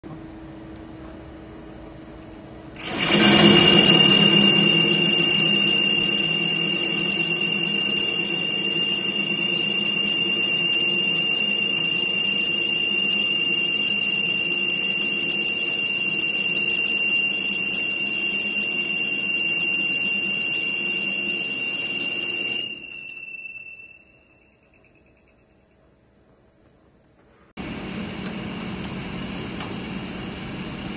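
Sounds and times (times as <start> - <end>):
lathe running with high whine: 2.8 - 24.6, 27.6 - 30.9.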